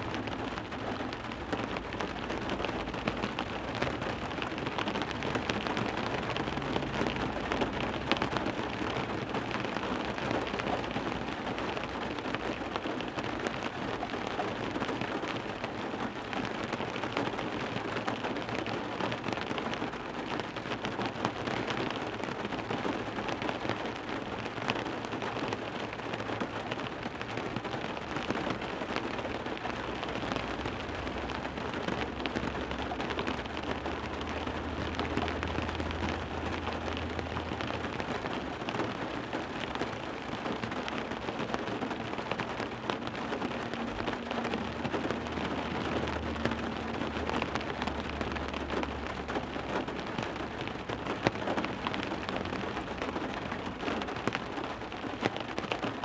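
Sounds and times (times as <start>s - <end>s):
rain on a car window: 0.0s - 56.0s.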